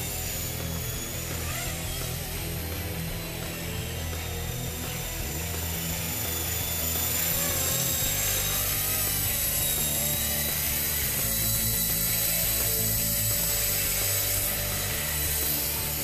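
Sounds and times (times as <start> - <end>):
toy helicopter motor whine: 0.0 - 16.0.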